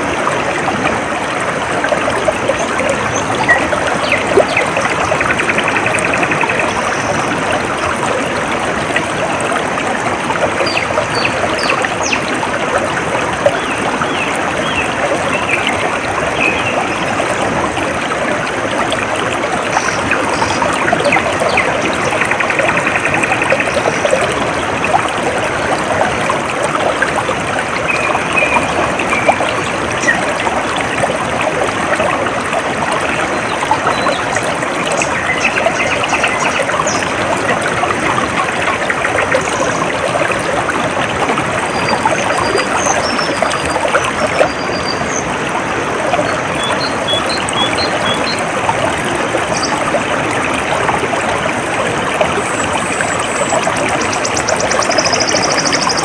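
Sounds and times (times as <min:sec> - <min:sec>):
stream trickling and babbling: 0:00.0 - 0:56.0.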